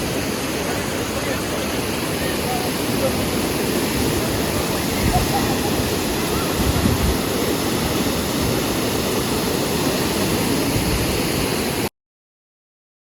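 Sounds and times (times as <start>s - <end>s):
rushing water: 0.0s - 11.9s.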